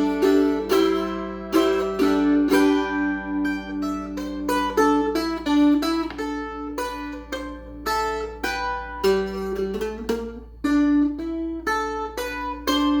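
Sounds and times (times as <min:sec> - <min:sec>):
mandolin melody: 0:00.0 - 0:13.0.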